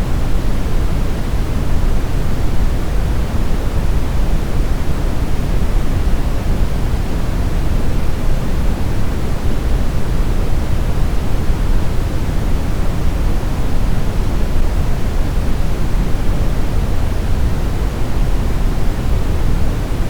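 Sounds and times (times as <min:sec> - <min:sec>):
brown noise hiss: 0:00.0 - 0:20.0.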